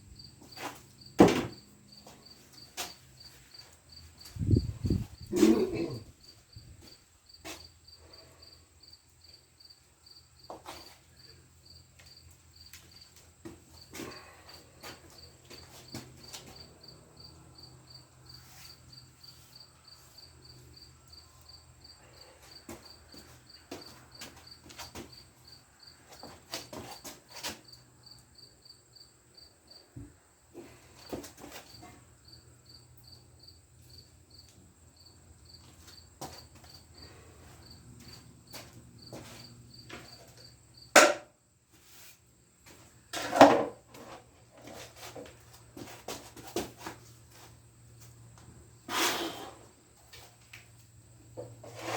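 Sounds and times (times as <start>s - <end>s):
cricket chirping: 0.0s - 41.6s.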